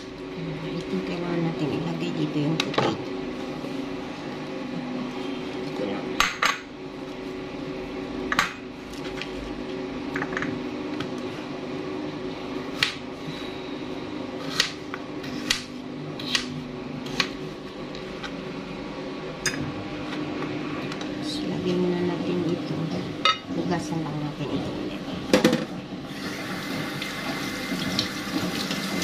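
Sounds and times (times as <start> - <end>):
steady low hum: 0.0 - 26.1.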